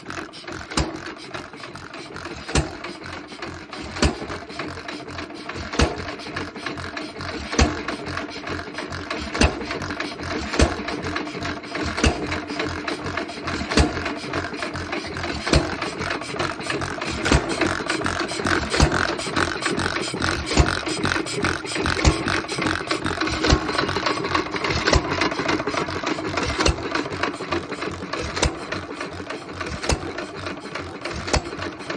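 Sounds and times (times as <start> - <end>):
engine and compressor clatter: 0.0 - 31.9.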